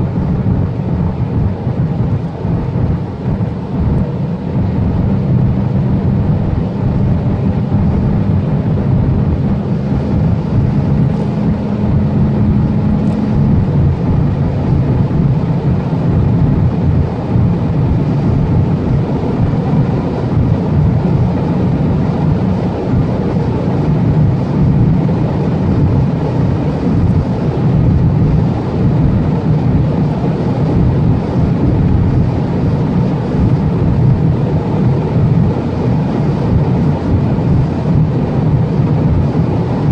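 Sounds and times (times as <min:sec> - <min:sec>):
car engine revving high: 0:00.0 - 0:39.9
wind and tyre noise: 0:00.0 - 0:39.9.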